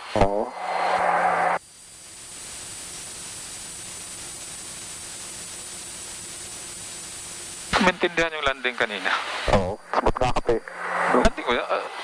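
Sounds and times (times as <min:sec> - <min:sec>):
radio static burst: 0:00.0 - 0:12.0
steady hiss: 0:00.0 - 0:12.0.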